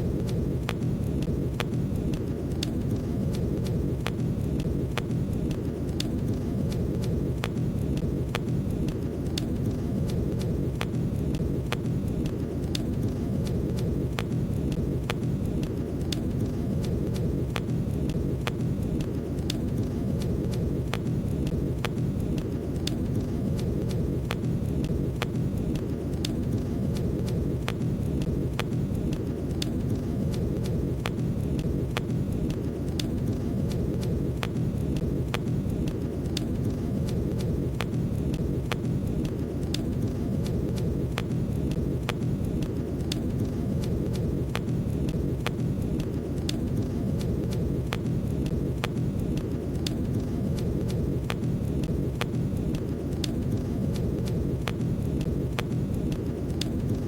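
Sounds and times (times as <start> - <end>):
low rumble of fire flames: 0.0 - 57.0
wood fire crackles and pops: 0.0 - 57.0.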